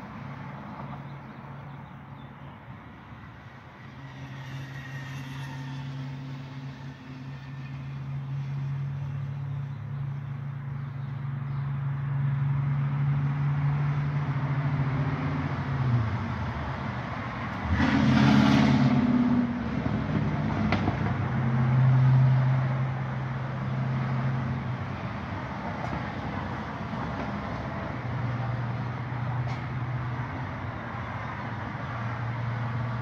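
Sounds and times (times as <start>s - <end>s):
traffic engine hum: 0.0s - 33.0s
loud vehicle passing: 3.1s - 33.0s.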